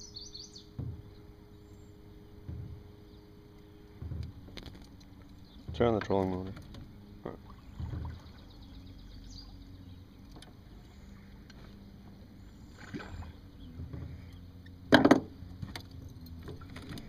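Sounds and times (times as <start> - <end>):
propeller churning water: 0.0 - 17.0
trolling motor humming: 0.0 - 17.0.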